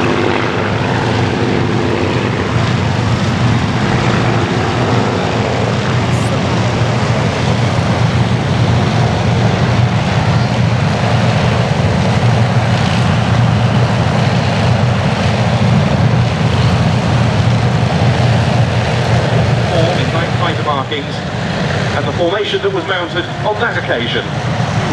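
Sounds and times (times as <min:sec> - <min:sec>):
aircraft engines droning: 0:00.0 - 0:24.9.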